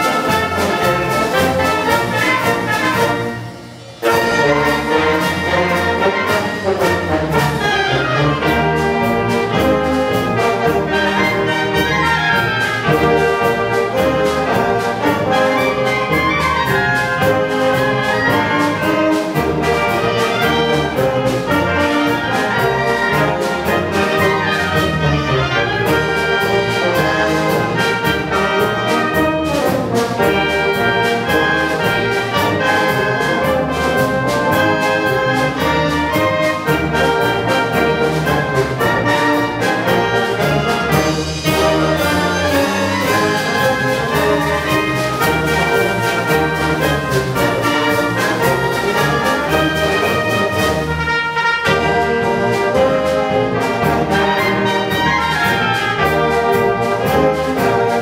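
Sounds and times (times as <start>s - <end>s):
wind band playing: 0.0s - 58.0s.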